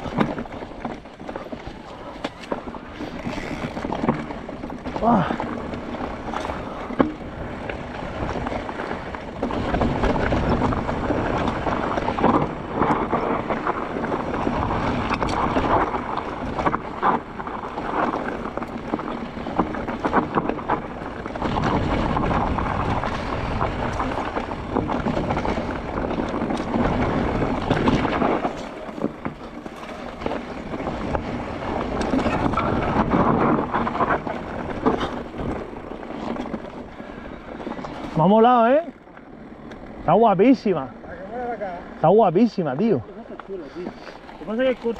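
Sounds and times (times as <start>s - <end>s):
wind on microphone: 0.0s - 38.4s
bike knocking and rattling: 0.0s - 44.9s
tyres rumbling over dirt: 0.0s - 44.9s.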